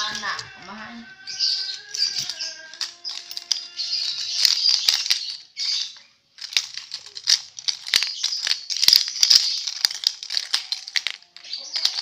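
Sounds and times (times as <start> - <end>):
plastic rattle shaken: 1.3 - 12.0.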